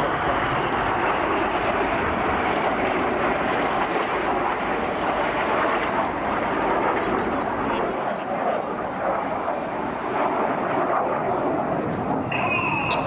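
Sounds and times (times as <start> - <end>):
jets flying overhead: 0.0 - 13.0.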